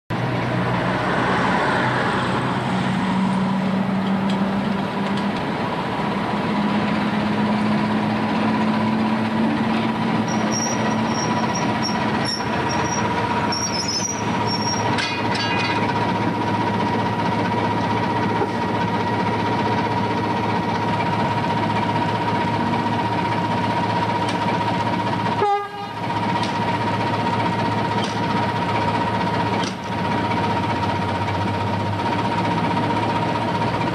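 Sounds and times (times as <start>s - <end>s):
diesel locomotive engine running: 0.1s - 33.9s.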